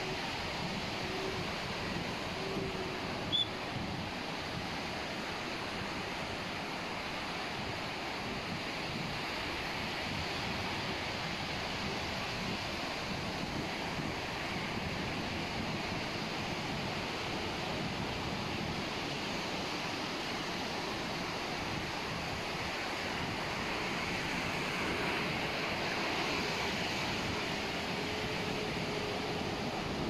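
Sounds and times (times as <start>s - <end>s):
sea waves breaking on beach: 0.0s - 30.0s
wind buffeting microphone: 0.0s - 30.0s.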